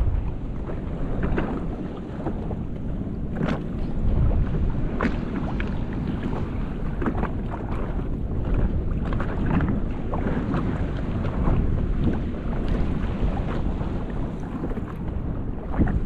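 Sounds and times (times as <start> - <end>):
water slapping against hull: 0.0 - 16.0
wind buffeting microphone: 0.0 - 16.0.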